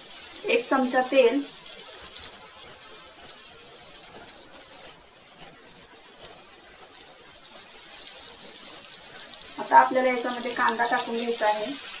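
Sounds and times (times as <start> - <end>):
butter and oil sizzling: 0.0 - 12.0.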